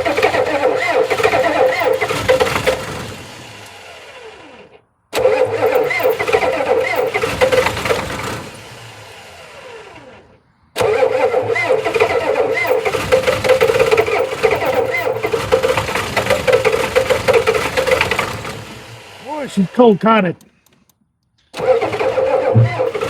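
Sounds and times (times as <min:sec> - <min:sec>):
diesel engine cranking and starting: 0:00.0 - 0:23.0.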